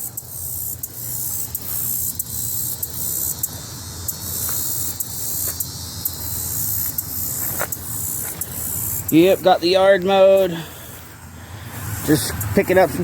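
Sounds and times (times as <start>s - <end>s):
high hiss: 0.0s - 13.0s.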